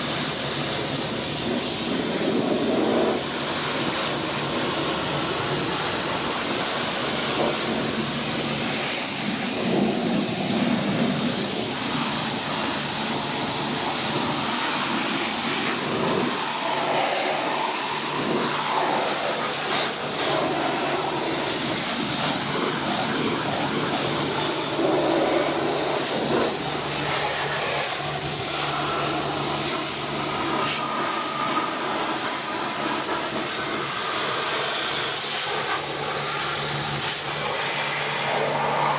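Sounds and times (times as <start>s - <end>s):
pressure washer spraying: 0.0s - 38.9s.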